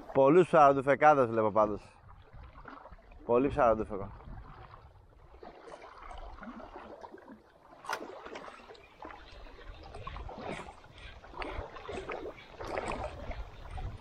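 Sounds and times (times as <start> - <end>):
small waves lapping: 0.0 - 14.0.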